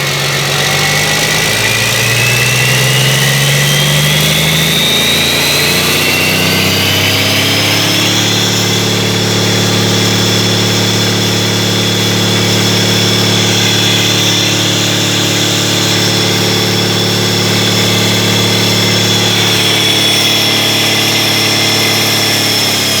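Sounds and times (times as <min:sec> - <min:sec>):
diesel engine running: 0:00.0 - 0:23.0
high engine whine: 0:00.0 - 0:23.0.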